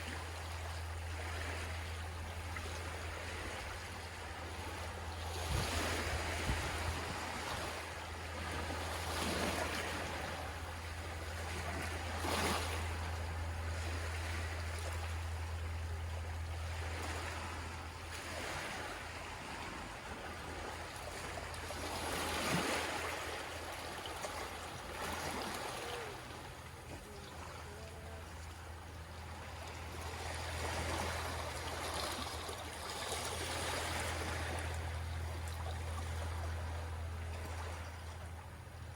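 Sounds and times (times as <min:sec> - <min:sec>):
low rumble: 0:00.0 - 0:38.9
sea waves washing in: 0:00.0 - 0:38.9.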